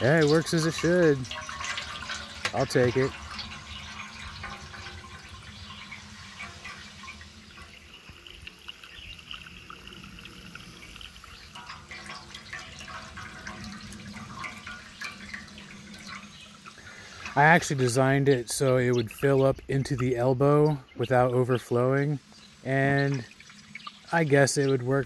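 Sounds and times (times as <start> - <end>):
small ticks and splashes: 0.0 - 25.0
water trickling into metal pan: 0.0 - 25.0.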